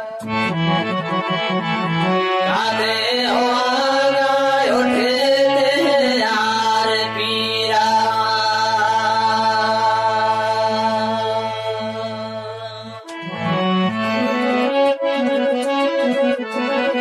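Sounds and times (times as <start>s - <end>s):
harmonium: 0.0s - 17.0s.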